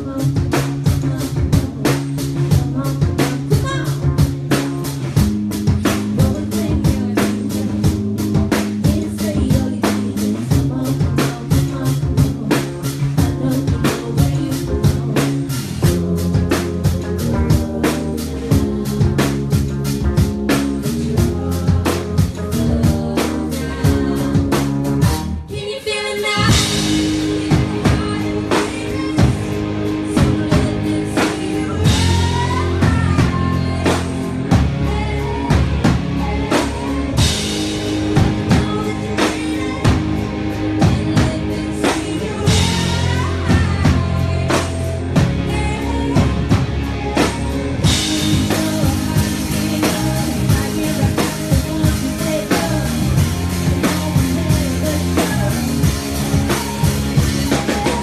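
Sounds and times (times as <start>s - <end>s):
drum kit: 0.0s - 58.0s
electric guitar: 0.0s - 58.0s
pop-rock band playing: 0.0s - 58.0s
woman singing into microphone: 0.0s - 58.0s.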